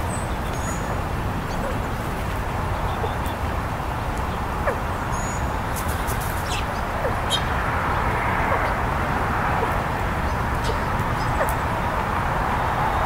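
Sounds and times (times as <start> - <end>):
small birds chirping: 0.0 - 8.9, 9.6 - 13.0
outdoor rumble and hiss: 0.0 - 13.0.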